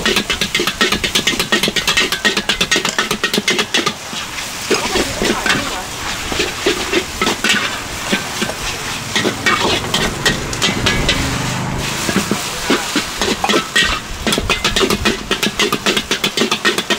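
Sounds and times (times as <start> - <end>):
metal utensils scraping a wok: 0.0 - 16.9
noodles sizzling: 0.0 - 16.9.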